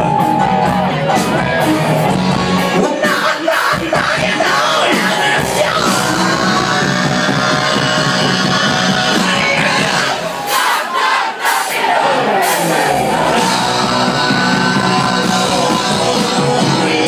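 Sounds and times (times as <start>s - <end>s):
live rock band playing: 0.0s - 10.8s, 11.5s - 17.0s.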